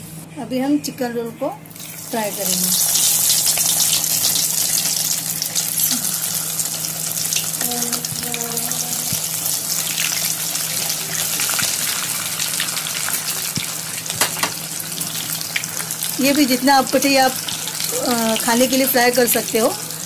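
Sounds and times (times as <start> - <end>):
food deep-frying in hot oil: 1.7 - 20.0.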